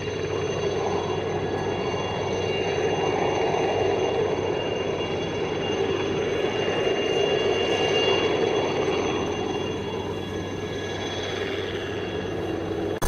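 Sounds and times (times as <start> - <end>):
helicopter flying low: 0.0 - 13.0.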